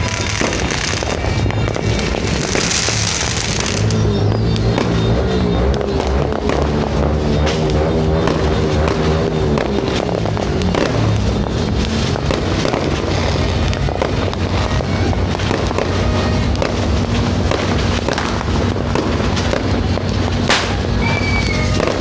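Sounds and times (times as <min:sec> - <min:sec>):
fireworks popping and crackling: 0:00.0 - 0:22.0.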